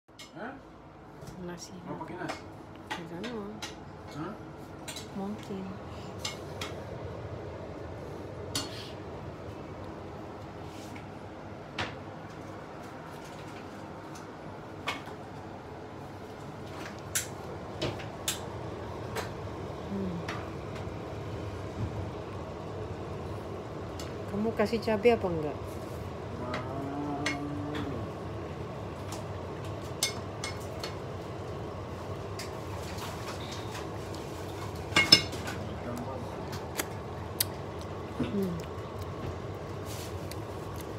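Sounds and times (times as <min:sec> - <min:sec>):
low background hum: 0:00.1 - 0:40.9.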